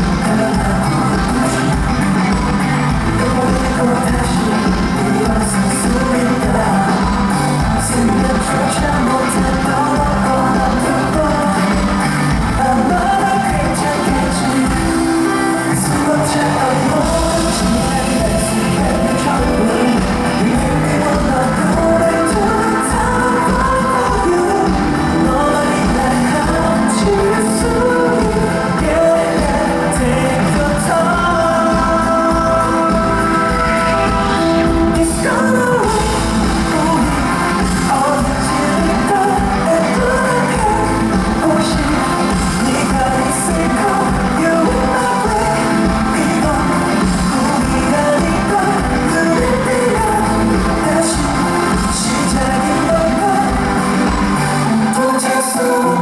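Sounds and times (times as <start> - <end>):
man singing over a pop beat: 0.0 - 56.0.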